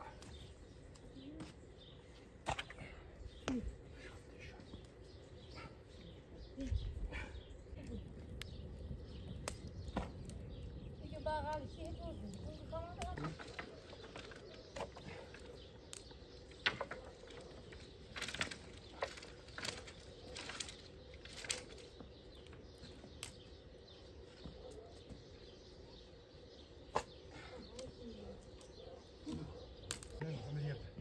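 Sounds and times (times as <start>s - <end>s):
faint bird chirps: 0.0s - 31.0s.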